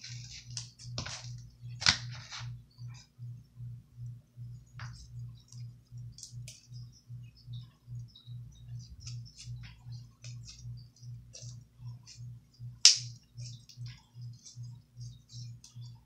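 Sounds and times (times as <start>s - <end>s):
low pulsing hum: 0.0s - 16.0s.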